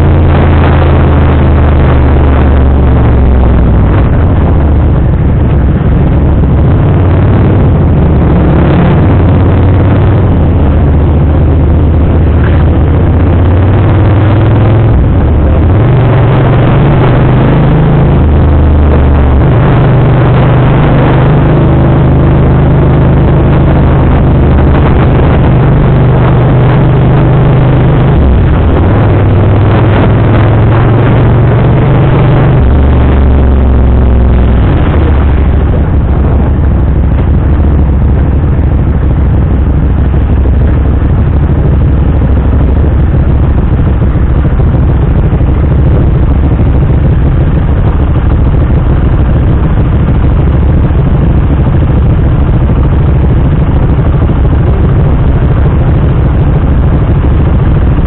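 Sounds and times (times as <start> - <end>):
motorcycle engine slowing and idling: 0.0 - 58.0.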